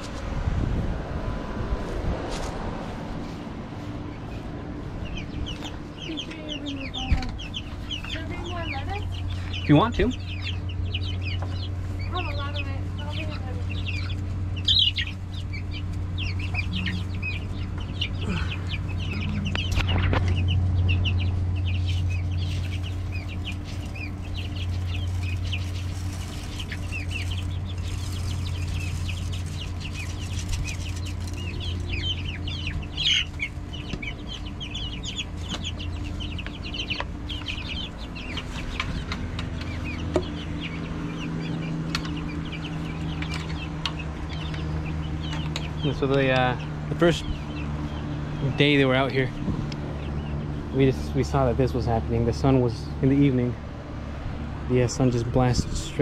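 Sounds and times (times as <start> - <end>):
chicks cheeping: 0.0 - 56.0
steady low hum: 0.0 - 56.0.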